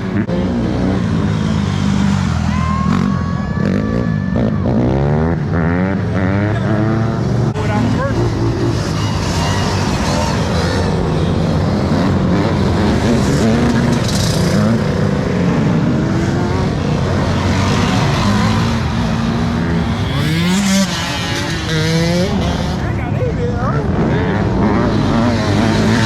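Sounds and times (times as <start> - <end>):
dirt bike engine revving: 0.0 - 23.1, 23.8 - 26.0.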